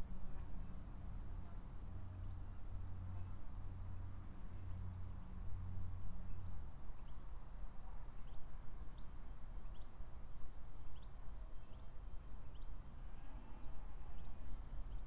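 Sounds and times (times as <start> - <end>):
low rumble of outdoor noise: 0.0 - 15.0.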